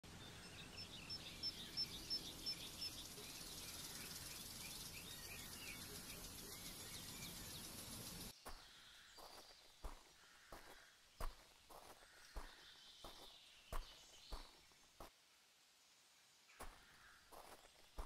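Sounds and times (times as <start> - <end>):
birds chirping: 0.0 - 15.2, 16.3 - 18.0
faint outdoor hiss: 0.1 - 18.0.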